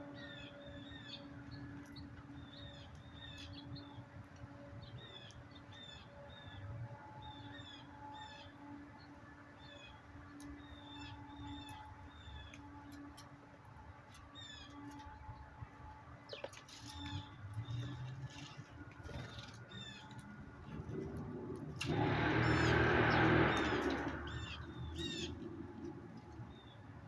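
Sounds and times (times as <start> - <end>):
small birds chirping: 0.1 - 6.6, 7.2 - 12.7, 16.2 - 21.0, 22.1 - 26.9.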